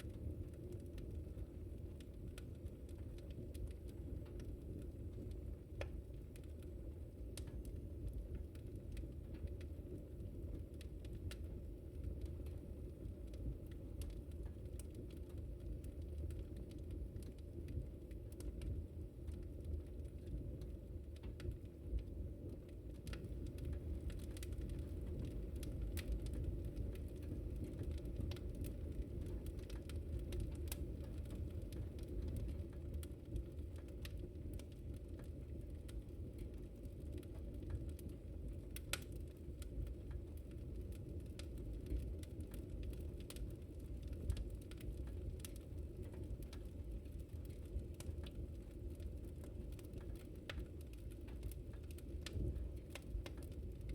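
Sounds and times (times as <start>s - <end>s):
fire crackles and pops: 0.0s - 53.9s
wood fire rumbling: 0.0s - 53.9s.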